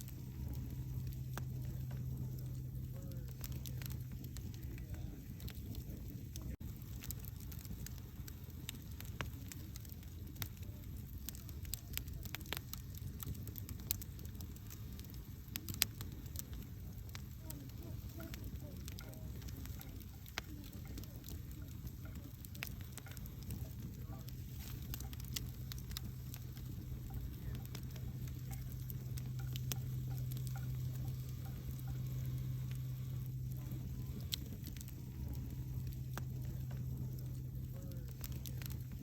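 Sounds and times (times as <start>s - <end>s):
campfire crackling and popping: 0.0s - 39.0s
steady low hum: 0.0s - 39.0s.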